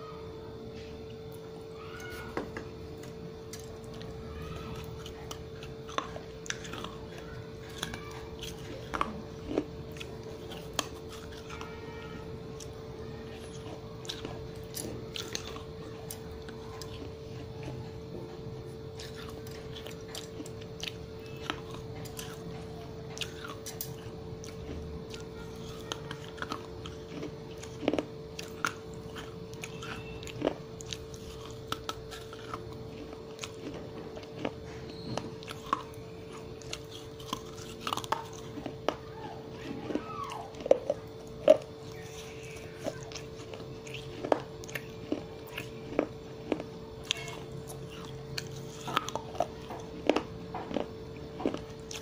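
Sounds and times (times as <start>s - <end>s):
steady low hum: 0.0s - 52.0s
chewing crunchy clay: 0.5s - 52.0s.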